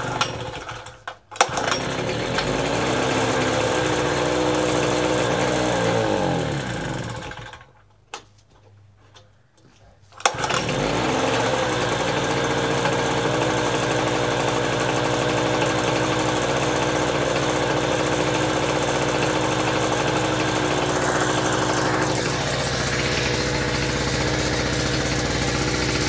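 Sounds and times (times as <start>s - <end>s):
small generator engine running: 0.0s - 7.7s, 10.2s - 26.0s.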